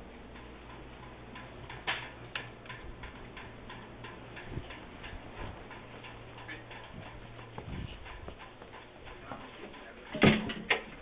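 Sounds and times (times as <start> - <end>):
ceiling fan motor hum: 0.0 - 11.0
fan ticking: 0.0 - 11.0.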